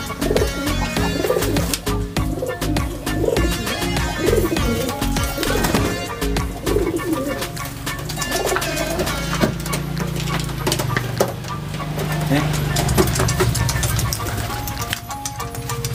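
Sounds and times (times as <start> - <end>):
pigeons cooing: 0.0 - 15.0
background music: 0.0 - 15.9.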